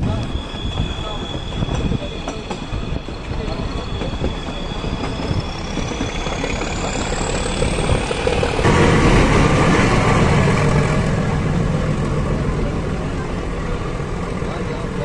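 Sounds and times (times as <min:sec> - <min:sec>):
train engine and wheels rumbling: 0:00.0 - 0:15.0.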